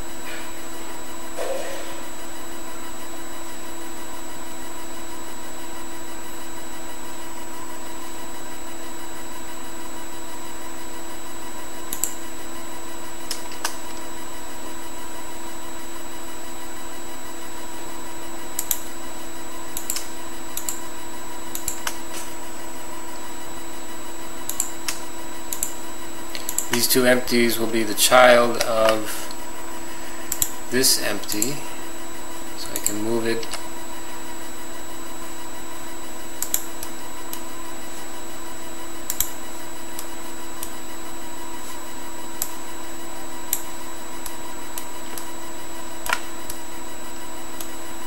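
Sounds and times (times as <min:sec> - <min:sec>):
computer humming with tones: 0:00.0 - 0:48.0.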